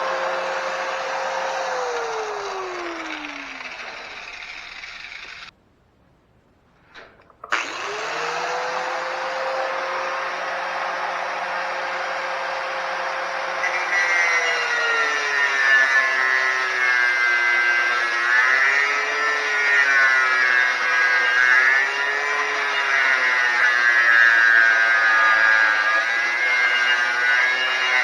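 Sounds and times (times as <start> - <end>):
angle grinder grinding metal: 0.0 - 5.5, 7.4 - 28.0.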